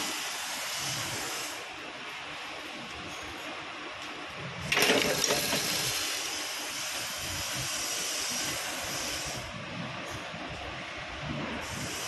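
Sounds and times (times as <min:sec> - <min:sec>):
machine droning: 0:00.0 - 0:12.0.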